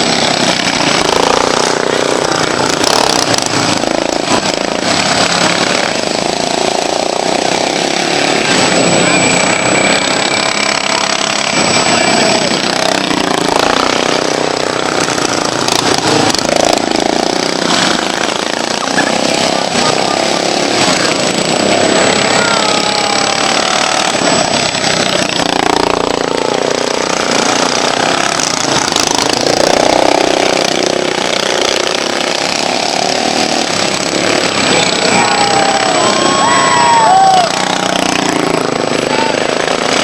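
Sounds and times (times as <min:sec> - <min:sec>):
lawn mower engines revving: 0:00.0 - 0:40.0.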